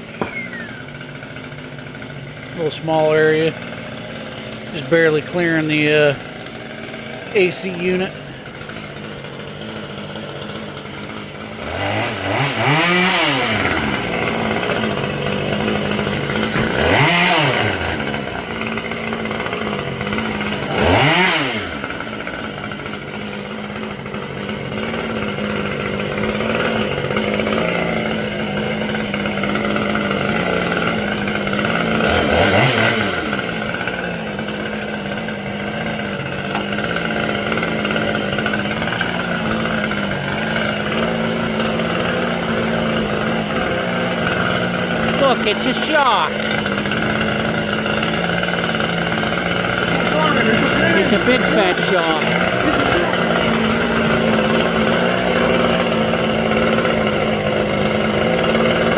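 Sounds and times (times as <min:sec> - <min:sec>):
chainsaw revving: 0:00.0 - 0:58.9.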